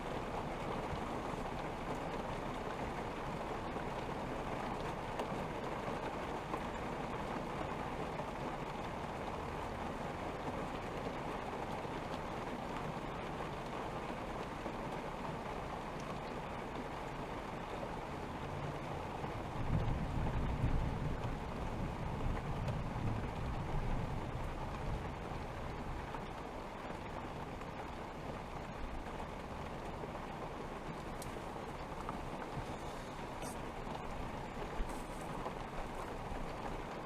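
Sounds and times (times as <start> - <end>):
steady rain patter: 0.0 - 37.0.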